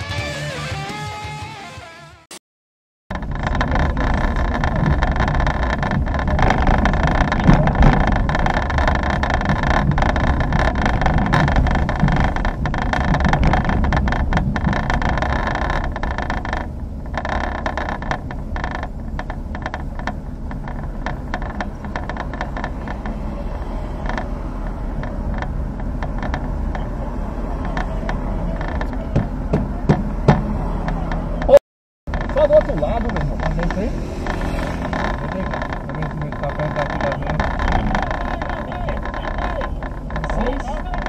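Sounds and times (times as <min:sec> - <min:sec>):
car engine and road rumble: 0:03.1 - 0:41.0
interior rattles and clicks: 0:03.1 - 0:41.0.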